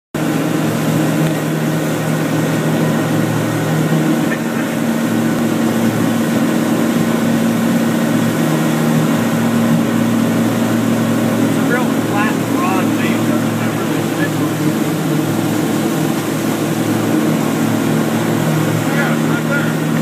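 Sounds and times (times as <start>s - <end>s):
boat engine running: 0.1s - 20.0s
wind and water rushing: 0.2s - 20.0s.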